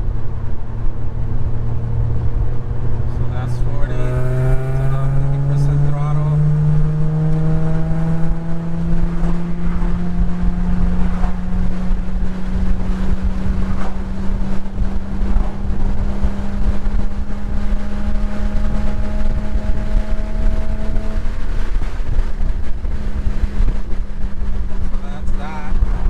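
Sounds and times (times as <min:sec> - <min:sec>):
car engine droning: 0:00.0 - 0:26.0
road and wind noise: 0:00.0 - 0:26.0.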